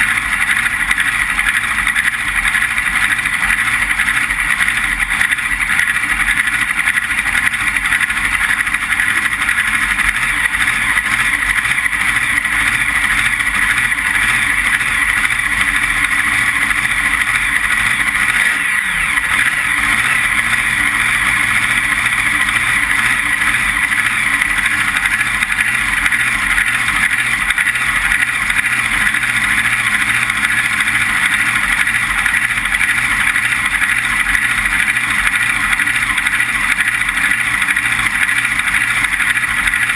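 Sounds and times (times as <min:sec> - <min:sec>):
steady vehicle engine noise: 0:00.0 - 0:39.9.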